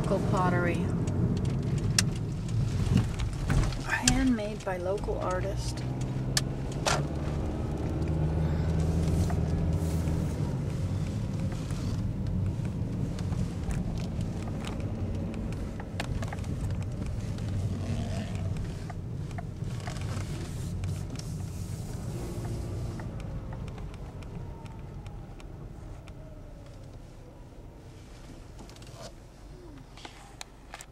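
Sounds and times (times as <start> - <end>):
car engine running: 0.0 - 26.8.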